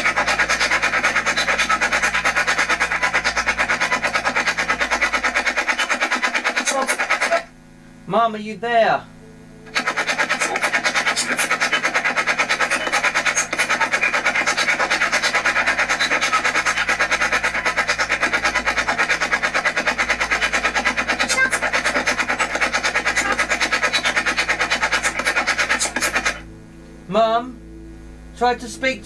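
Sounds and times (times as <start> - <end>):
broken broadcast snatches: 0.0 - 7.6, 9.7 - 26.6
choppy radio static: 0.0 - 29.0.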